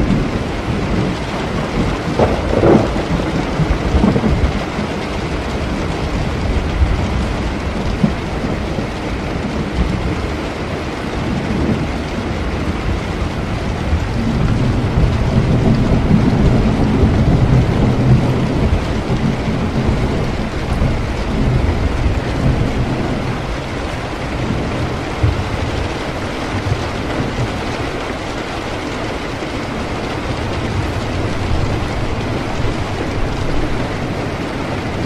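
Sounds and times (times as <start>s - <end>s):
low thunder roll: 0.0s - 10.3s, 11.2s - 35.0s
heavy rain: 0.0s - 35.0s.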